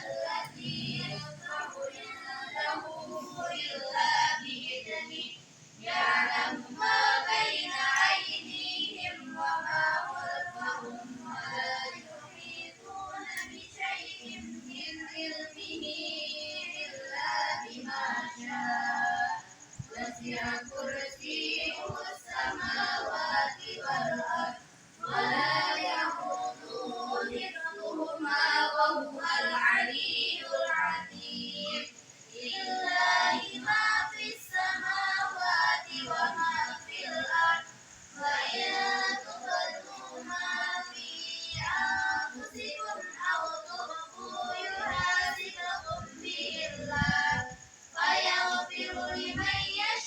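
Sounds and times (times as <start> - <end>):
faint steady high tone: 0.0 - 50.0
voices singing: 0.0 - 50.0.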